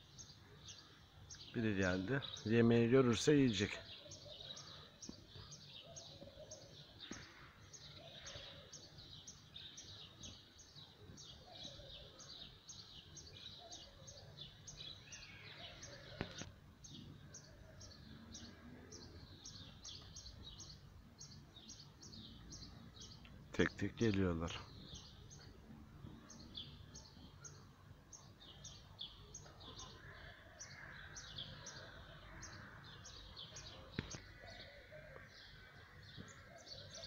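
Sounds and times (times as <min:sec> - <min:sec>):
small bird chirping: 0:03.7 - 0:37.0.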